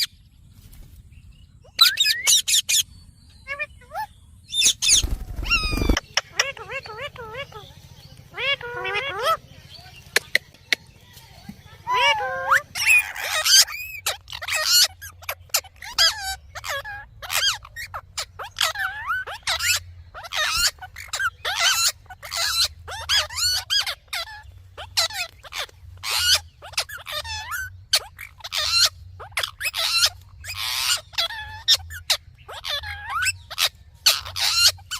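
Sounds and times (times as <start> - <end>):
parakeet chattering: 3.4 - 11.0, 11.8 - 34.9.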